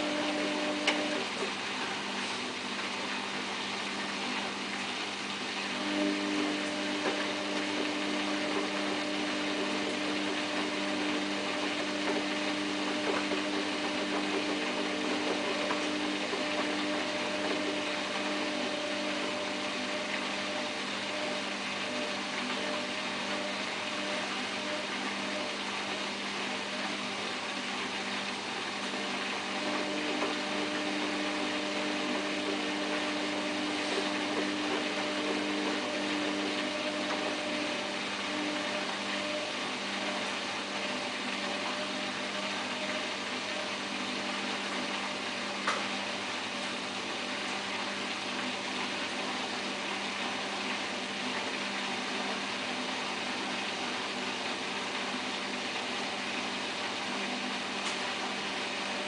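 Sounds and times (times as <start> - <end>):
washing machine spinning: 0.0 - 59.0.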